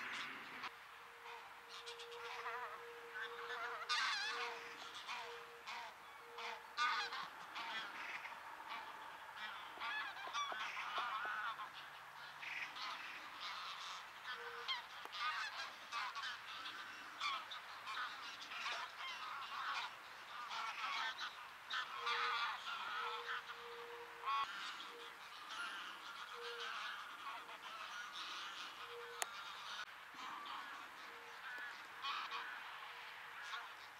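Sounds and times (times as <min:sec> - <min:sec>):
geese honking in flight: 0:00.0 - 0:32.8, 0:33.4 - 0:33.9.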